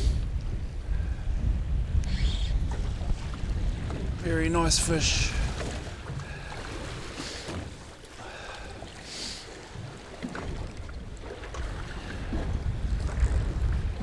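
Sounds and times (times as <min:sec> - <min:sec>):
wind buffeting microphone: 0:00.0 - 0:08.9, 0:09.5 - 0:14.0
water slapping against boat hull: 0:02.6 - 0:14.0.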